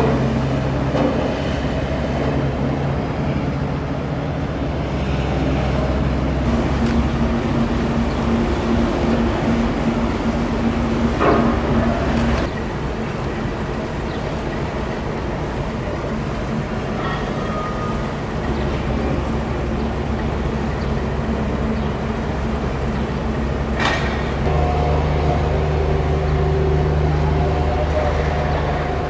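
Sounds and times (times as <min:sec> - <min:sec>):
engine humming: 0:00.0 - 0:29.0.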